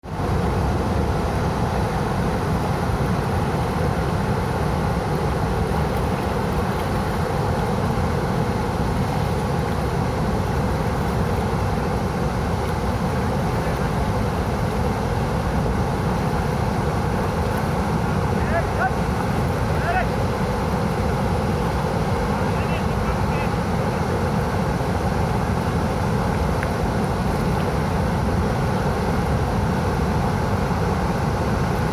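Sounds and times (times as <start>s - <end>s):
waterfall rushing: 0.0s - 29.1s.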